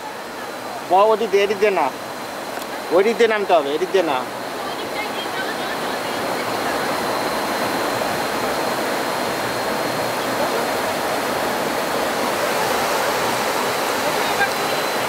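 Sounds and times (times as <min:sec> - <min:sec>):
river rushing over stones: 0:00.0 - 0:15.0.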